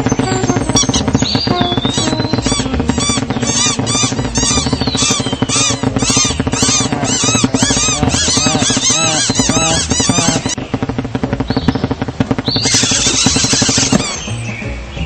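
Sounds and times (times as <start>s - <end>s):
cartoon birds chirping: 0.0s - 14.5s.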